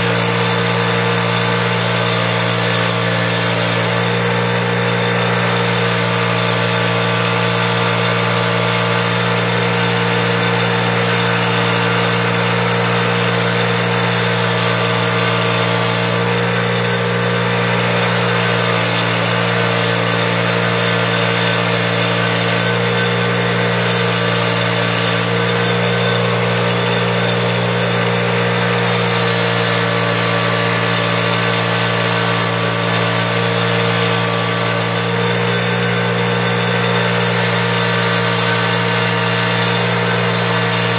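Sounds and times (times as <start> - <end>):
bench grinder motor hum: 0.0 - 40.9.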